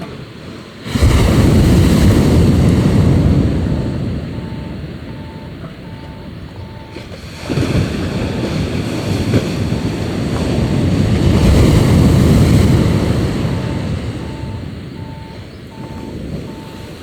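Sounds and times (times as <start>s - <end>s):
sea waves breaking on shore: 0.0s - 17.0s.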